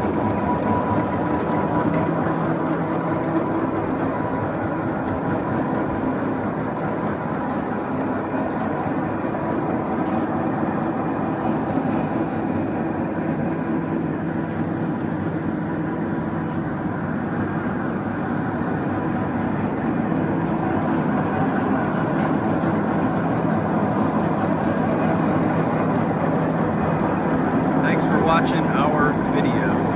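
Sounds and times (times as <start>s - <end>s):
lathe motor and gearing hum: 0.0s - 29.9s.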